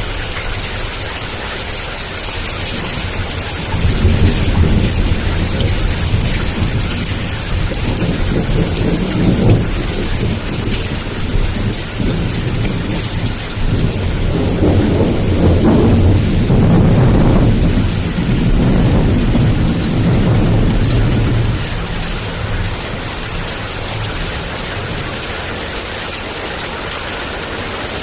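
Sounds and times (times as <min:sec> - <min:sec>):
heavy rain hissing: 0:00.0 - 0:28.0
thunder rumbling: 0:00.0 - 0:28.0.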